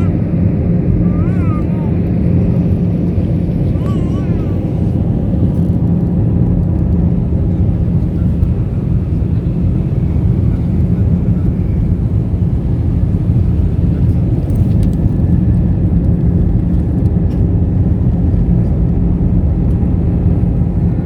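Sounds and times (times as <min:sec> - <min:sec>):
airliner engines drone: 0:00.0 - 0:21.0.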